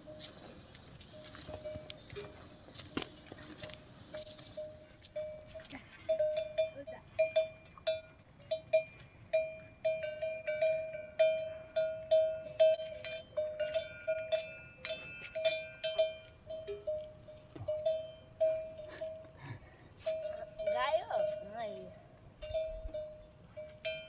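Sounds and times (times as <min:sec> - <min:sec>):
metal livestock bells clanking: 0:00.0 - 0:24.0.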